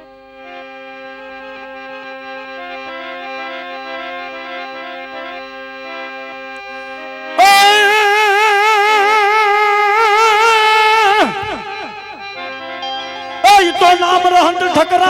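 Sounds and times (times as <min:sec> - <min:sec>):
harmonium melody over drone: 0:00.0 - 0:15.0.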